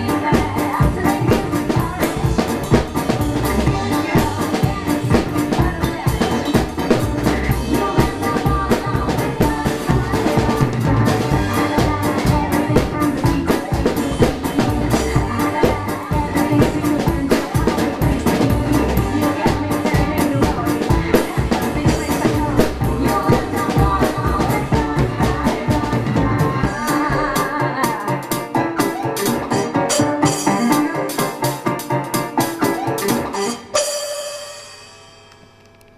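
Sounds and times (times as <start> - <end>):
electro-swing music: 0.0 - 34.5
drum kit playing swing: 0.0 - 35.0.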